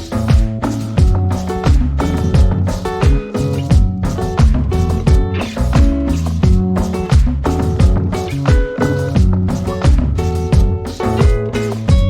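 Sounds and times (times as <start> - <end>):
kick drum beat: 0.0 - 12.0.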